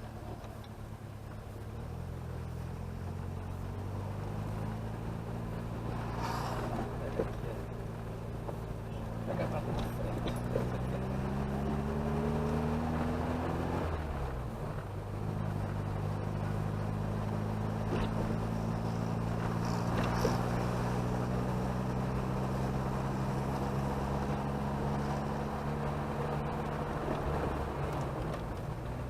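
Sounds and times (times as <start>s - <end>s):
car engine running: 0.0s - 29.0s
road noise: 0.0s - 29.0s.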